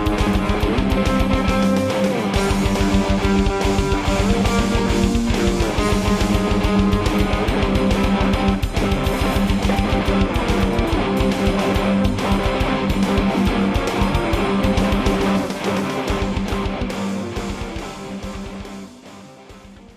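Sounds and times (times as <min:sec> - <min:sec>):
distorted guitar notes: 0:00.0 - 0:19.9
steady drum beat: 0:00.0 - 0:19.9.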